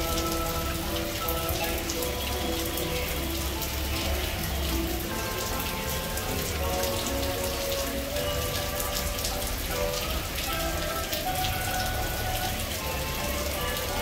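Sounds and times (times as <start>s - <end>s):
faint music of held notes: 0.0s - 14.0s
rain pattering on pavement: 0.0s - 14.0s.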